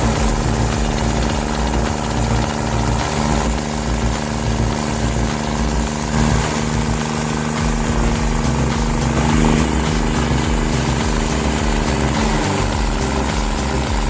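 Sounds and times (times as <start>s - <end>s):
machine engine running steadily: 0.0s - 14.0s.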